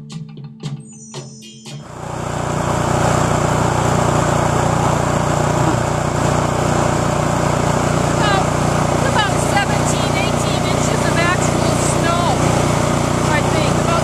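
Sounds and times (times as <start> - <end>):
snow blower engine running: 1.9 - 14.0.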